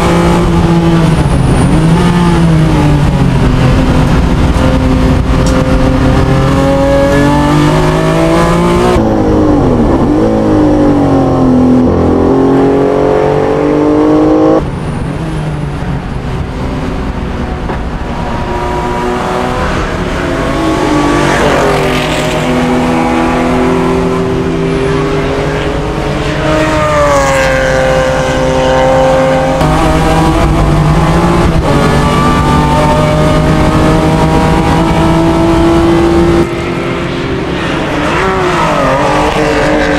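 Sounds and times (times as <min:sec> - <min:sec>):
race car engine revving: 0:00.0 - 0:14.7, 0:16.0 - 0:39.9
race cars passing by: 0:00.0 - 0:39.9.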